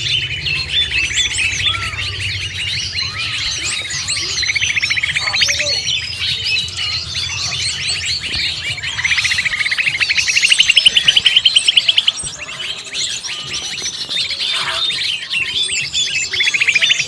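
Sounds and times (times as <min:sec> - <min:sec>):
fast rising repeated bird notes: 0:00.0 - 0:17.0
leafbird calls: 0:00.0 - 0:17.0
small birds chirping: 0:00.0 - 0:17.0.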